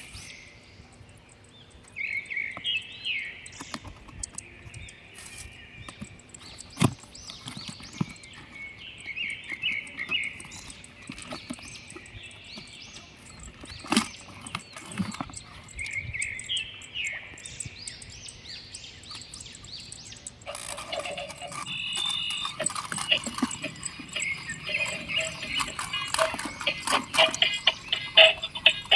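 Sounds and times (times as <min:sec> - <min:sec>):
birds chirping: 0:00.0 - 0:28.9
sharp clicks: 0:03.5 - 0:28.9.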